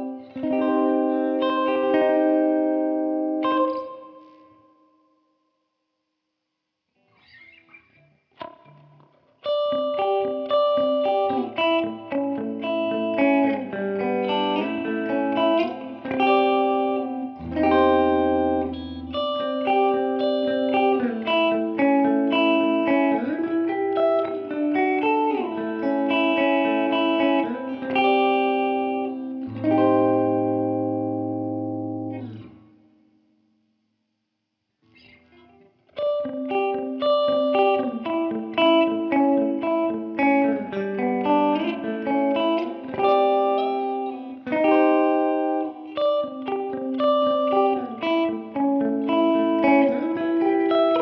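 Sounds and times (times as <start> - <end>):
clean electric guitar: 0.0 - 4.8, 7.0 - 33.5, 34.8 - 51.0.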